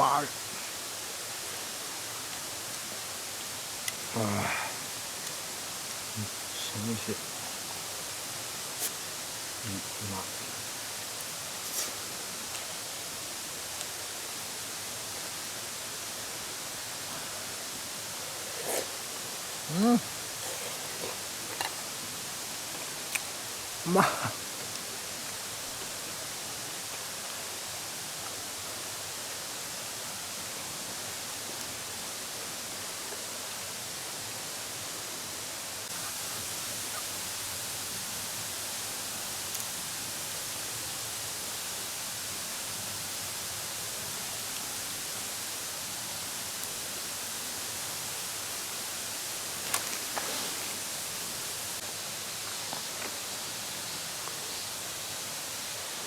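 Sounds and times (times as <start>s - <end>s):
outdoor background hiss: 0.0s - 56.0s.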